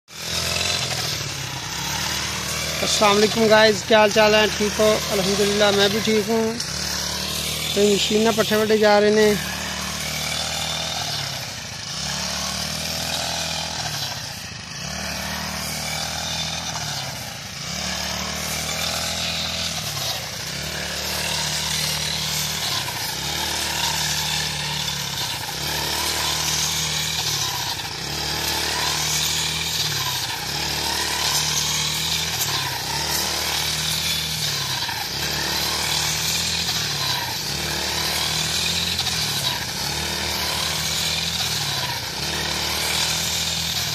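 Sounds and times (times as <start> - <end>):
brush cutter engine mowing: 0.1 - 43.9.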